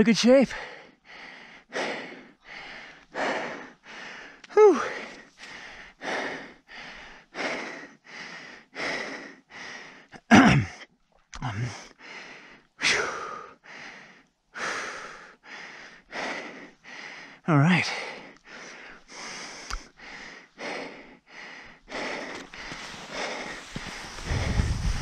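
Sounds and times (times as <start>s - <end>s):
person panting hard: 0.5s - 10.1s, 11.8s - 25.0s.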